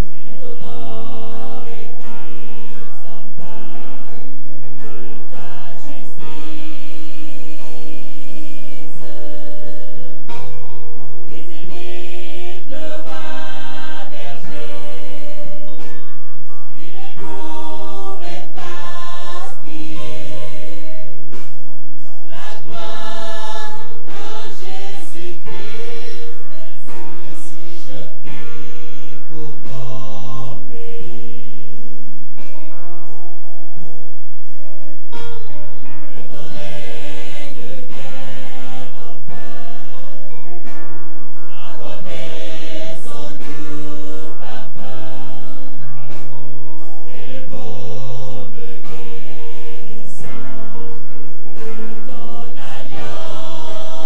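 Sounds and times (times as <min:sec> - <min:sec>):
gospel choir singing: 0:00.0 - 0:32.0, 0:35.8 - 0:54.0
steady bass line: 0:00.0 - 0:54.0.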